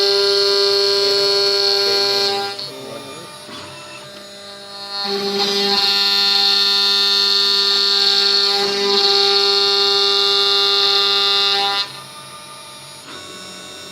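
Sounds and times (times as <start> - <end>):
router spindle whining cutting wood: 0.0 - 13.9.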